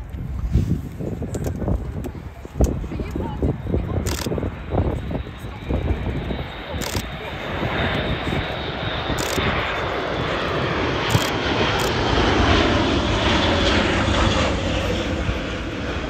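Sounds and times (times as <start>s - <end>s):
propeller aircraft flying past: 1.1s - 16.0s.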